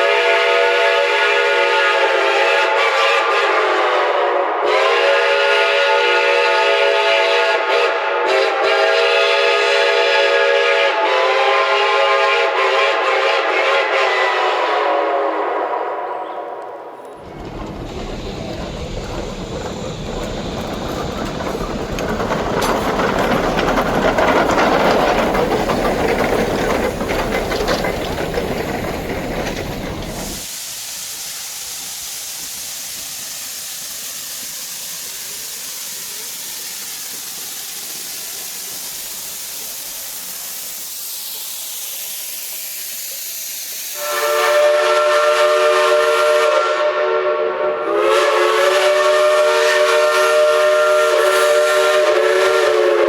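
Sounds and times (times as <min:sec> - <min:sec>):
hissing steam: 0:00.0 - 0:53.0
steam locomotive exhaust: 0:00.0 - 0:53.0.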